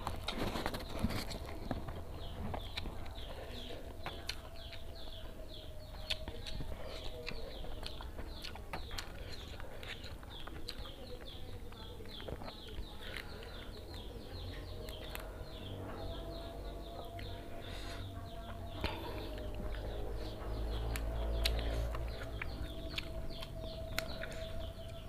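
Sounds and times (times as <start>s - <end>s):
person chewing and lip smacking: 0.0s - 14.1s, 14.8s - 15.5s, 16.9s - 25.0s.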